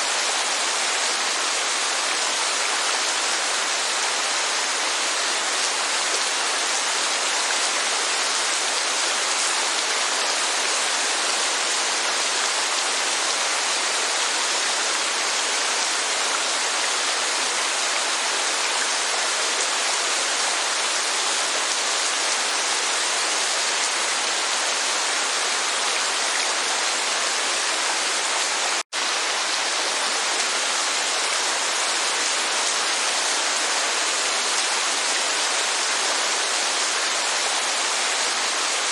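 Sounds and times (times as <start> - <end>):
steady rain: 0.0 - 38.9
waterfall rushing: 0.0 - 38.9.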